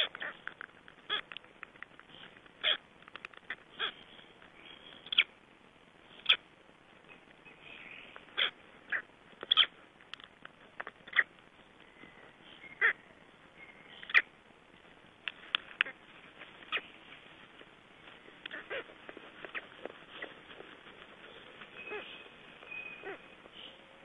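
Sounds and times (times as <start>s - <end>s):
chicks peeping inside eggs: 0.0s - 24.0s.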